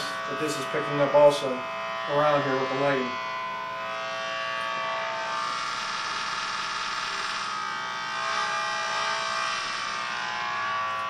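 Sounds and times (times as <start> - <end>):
electrical buzz from detector: 0.0 - 11.0.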